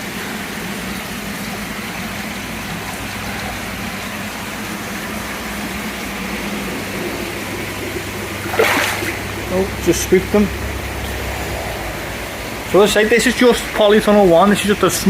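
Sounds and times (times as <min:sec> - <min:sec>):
pump and aeration hum: 0:00.0 - 0:15.0.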